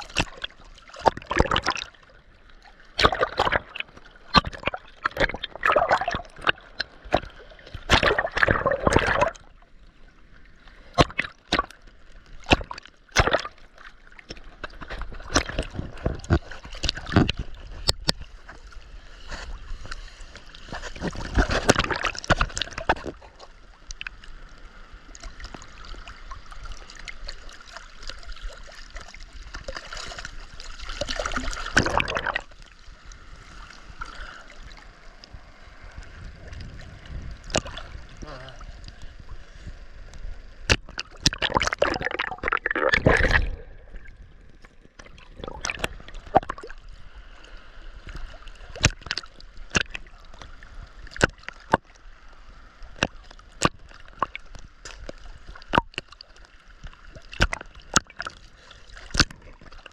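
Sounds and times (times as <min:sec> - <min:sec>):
sea water splashing: 0:00.0 - 0:59.9.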